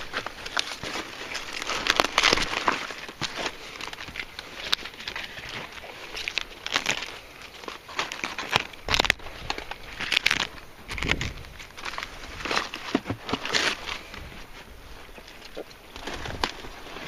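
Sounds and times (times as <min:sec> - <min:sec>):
leaves rustling and crackling: 0:00.0 - 0:17.0.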